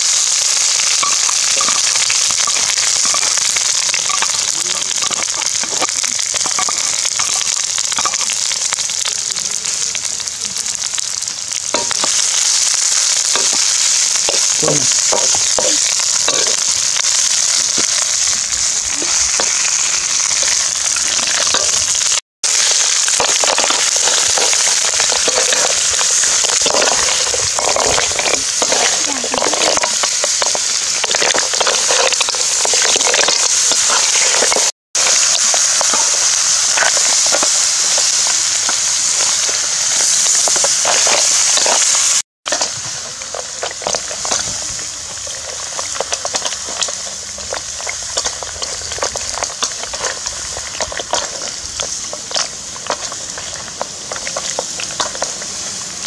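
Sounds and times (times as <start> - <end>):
paste sizzling in oil: 0.0 - 56.0.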